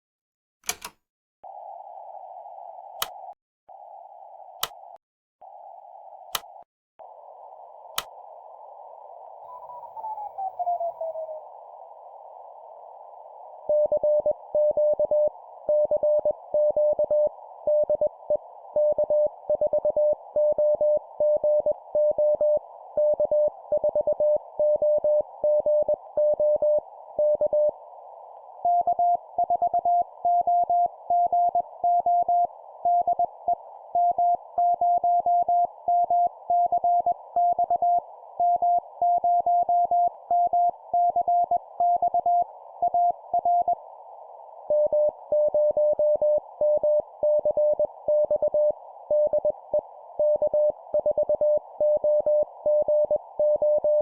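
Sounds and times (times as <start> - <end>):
receiver hiss: 1.5 - 54.0.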